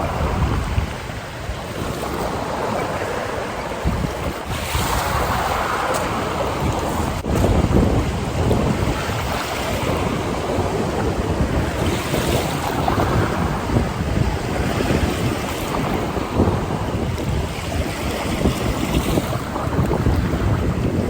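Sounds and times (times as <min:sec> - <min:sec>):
ocean surf rushing: 0:00.0 - 0:21.0
wind buffeting microphone: 0:00.0 - 0:21.0.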